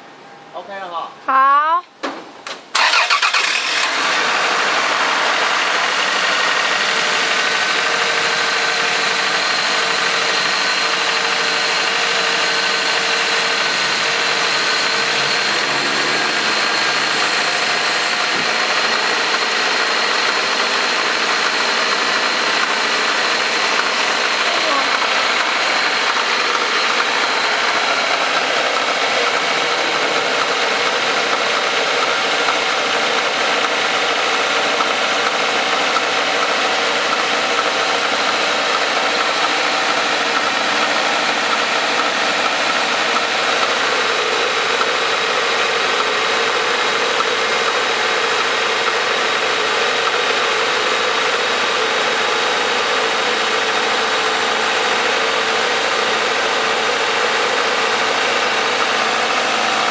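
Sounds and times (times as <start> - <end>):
car engine idling: 2.7 - 59.9
abnormal engine noise: 2.8 - 59.9.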